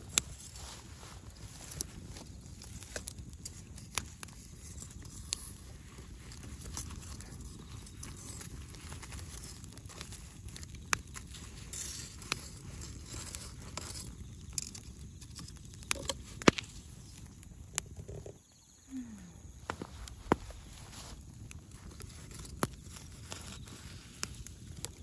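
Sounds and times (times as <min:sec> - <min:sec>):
campfire burning: 0:00.0 - 0:25.0
firewood popping and snapping: 0:00.0 - 0:25.0.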